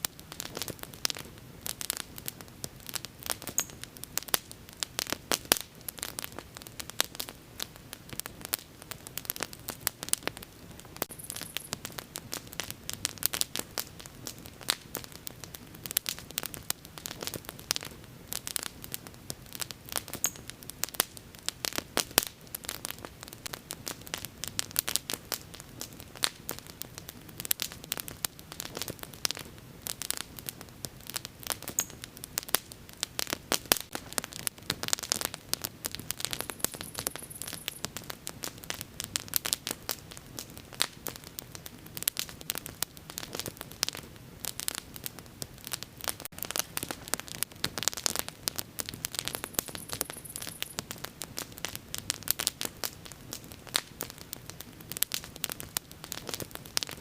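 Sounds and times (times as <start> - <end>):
bonfire crackling and popping: 0.0 - 57.0
soft hiss of flames: 0.0 - 57.0.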